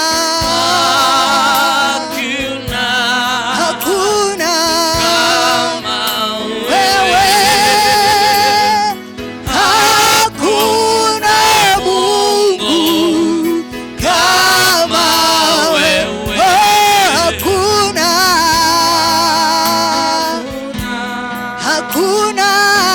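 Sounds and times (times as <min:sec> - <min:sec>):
person singing with vibrato: 0:00.0 - 0:22.9
low musical accompaniment: 0:00.1 - 0:22.9.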